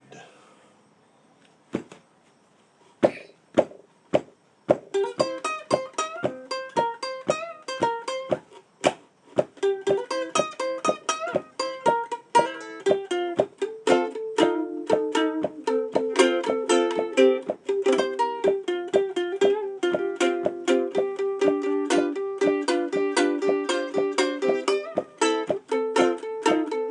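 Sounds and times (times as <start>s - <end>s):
plucked string instrument playing blues: 4.8s - 26.9s.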